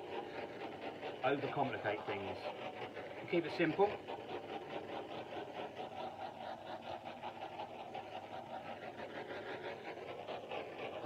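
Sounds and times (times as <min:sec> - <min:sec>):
gas torch hissing and fluttering: 0:00.0 - 0:11.0.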